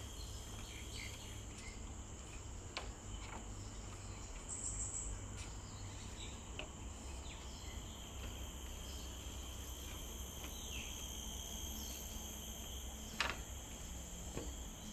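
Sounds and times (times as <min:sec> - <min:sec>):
insects chirring: 0:00.0 - 0:14.9.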